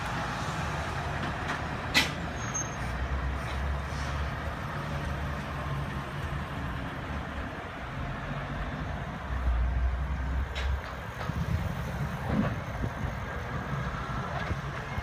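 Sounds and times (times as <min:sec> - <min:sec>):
motorhome driving by: 0:00.0 - 0:15.0
traffic noise: 0:00.0 - 0:15.0.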